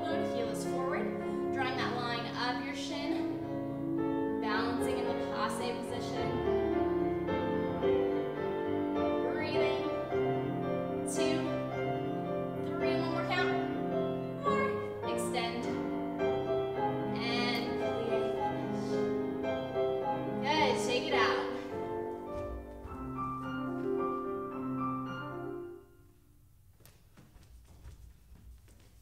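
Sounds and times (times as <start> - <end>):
instrumental classical music: 0.0 - 29.0.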